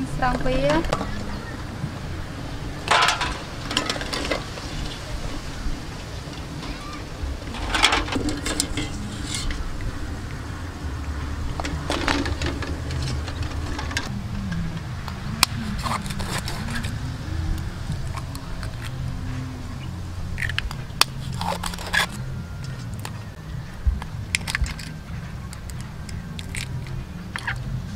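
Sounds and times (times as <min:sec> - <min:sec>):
steady low rumble: 0:00.0 - 0:27.9
wavering engine-like hum: 0:00.0 - 0:27.9.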